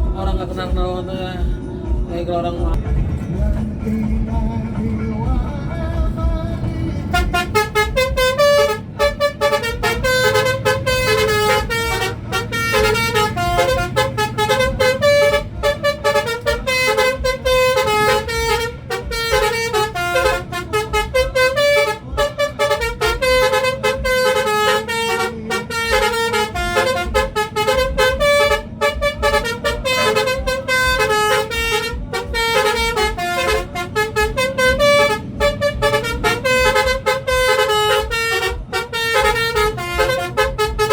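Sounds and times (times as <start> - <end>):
musical bus air horns: 6.6 - 40.9.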